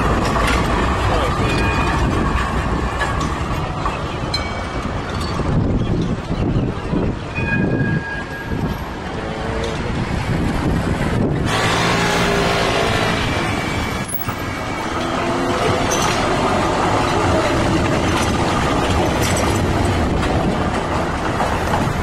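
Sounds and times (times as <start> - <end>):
trams and road traffic rumble: 0.0 - 22.0.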